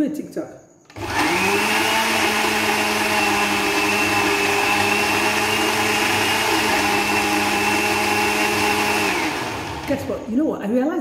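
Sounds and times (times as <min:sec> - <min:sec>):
blender motor whining: 0:00.9 - 0:10.3.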